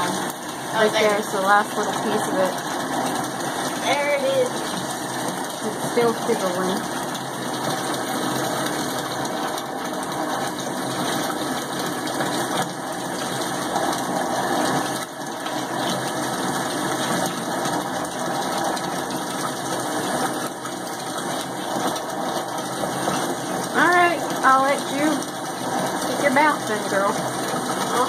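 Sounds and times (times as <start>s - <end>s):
steady mechanical running noise: 0.0s - 28.0s.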